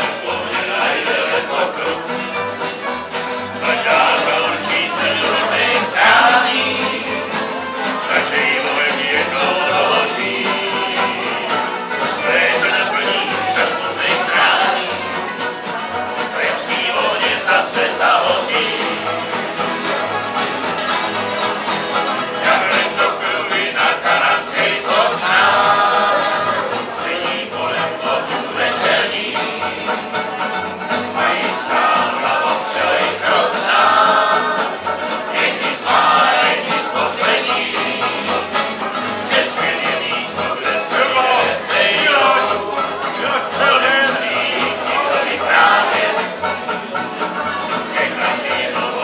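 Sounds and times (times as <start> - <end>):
men singing together: 0.0 - 2.4, 3.5 - 19.8, 22.1 - 46.8, 47.5 - 49.0
banjo: 0.0 - 49.0
strummed acoustic guitars: 0.0 - 49.0
upright bass: 0.0 - 49.0.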